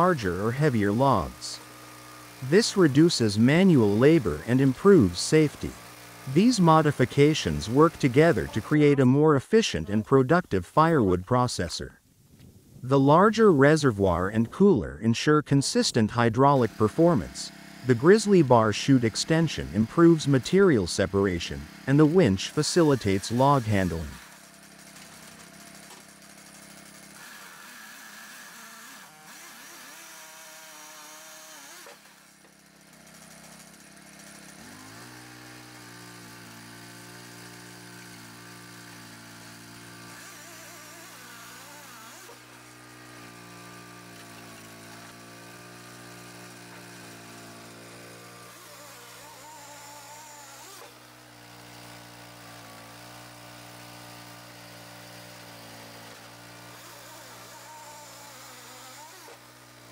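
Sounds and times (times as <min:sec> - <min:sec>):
engine running: 0:00.0 - 0:09.2, 0:15.7 - 0:59.9.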